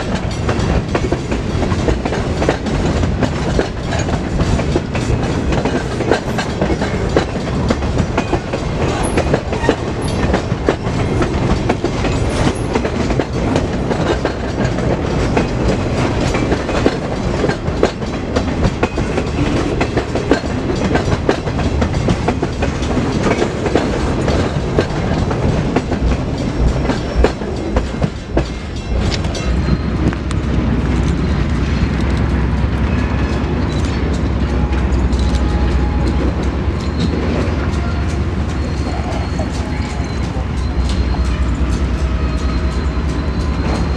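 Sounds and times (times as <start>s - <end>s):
freight train cars rolling past: 0.0s - 43.9s
wheels clicking over rail joints: 0.0s - 43.9s.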